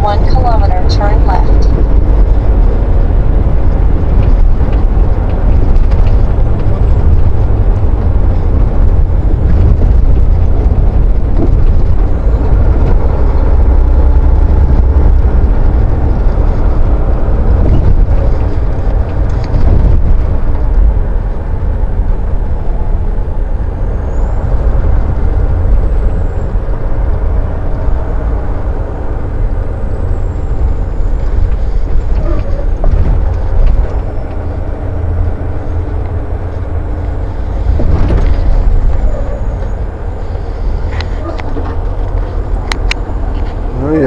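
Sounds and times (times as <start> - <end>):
road noise: 0.0 - 44.0
truck engine rumble: 0.0 - 44.0.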